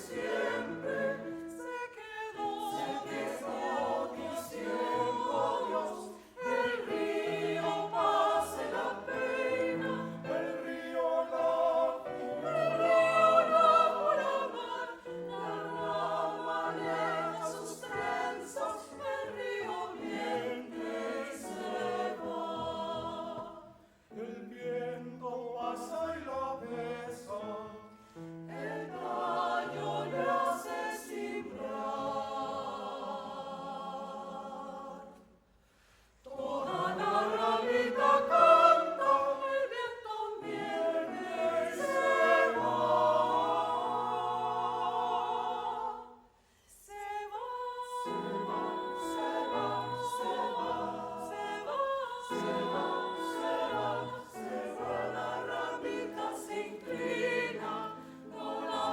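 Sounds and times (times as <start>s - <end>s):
choir singing: 0.0s - 58.9s.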